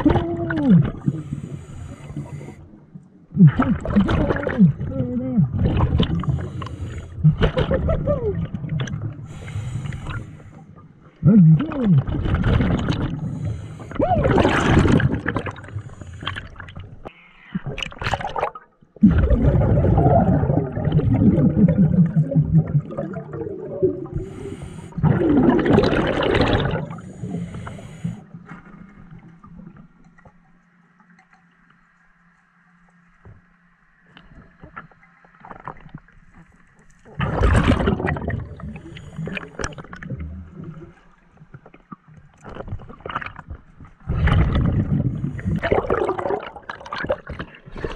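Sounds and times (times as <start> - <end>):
exhaled bubbles gurgling: 0.0 - 2.6, 3.3 - 17.0, 17.6 - 29.8, 37.0 - 47.9
faint steady hum: 0.0 - 17.6, 18.8 - 47.8.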